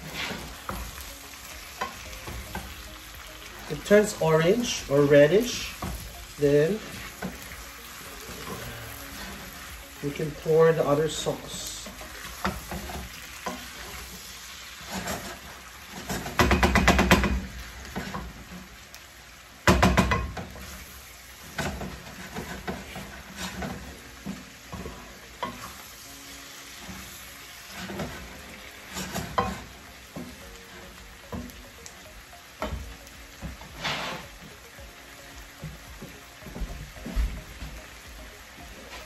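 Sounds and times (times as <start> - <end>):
wooden spatula scraping a pan: 0.0 - 18.8, 20.0 - 31.6, 32.6 - 38.0
shrimp sizzling in a pan: 0.0 - 39.0.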